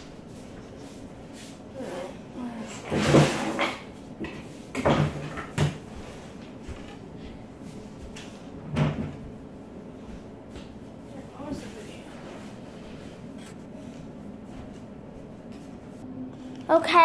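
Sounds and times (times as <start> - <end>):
things being moved and clattering: 0.0 - 16.0.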